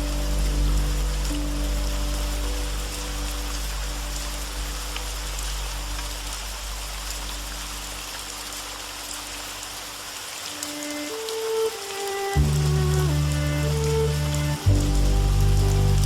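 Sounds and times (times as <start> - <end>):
soft slow music: 0.0 - 16.0
steady rain falling: 0.0 - 16.0.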